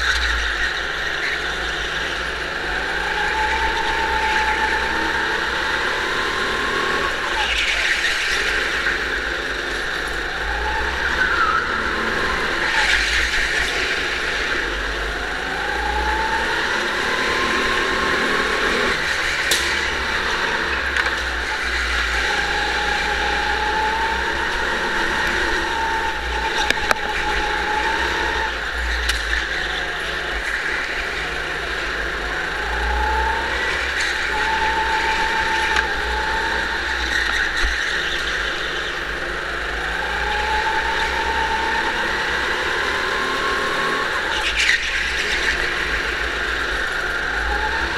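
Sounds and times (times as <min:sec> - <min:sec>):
go-kart engine rising and falling: 0:00.0 - 0:47.9.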